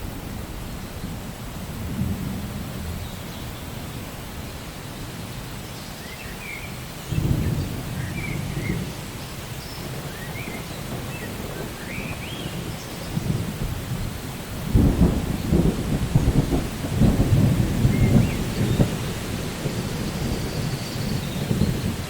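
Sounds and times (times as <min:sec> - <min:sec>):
rain hiss: 0:00.0 - 0:22.0
thunder rumble: 0:00.0 - 0:22.0.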